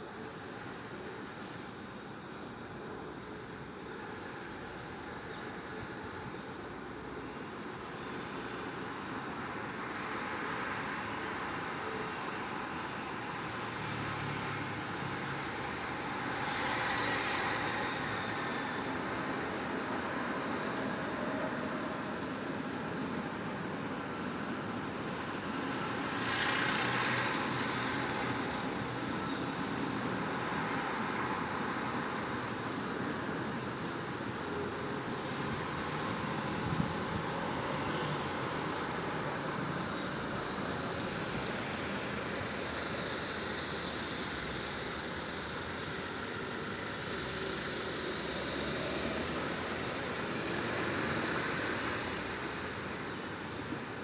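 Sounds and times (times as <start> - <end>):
city road traffic: 0.0 - 54.0.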